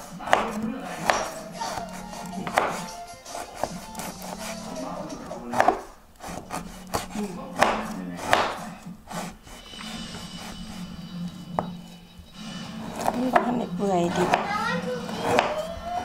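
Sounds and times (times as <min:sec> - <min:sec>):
knife chopping on plastic board: 0:00.0 - 0:10.9, 0:12.8 - 0:16.0.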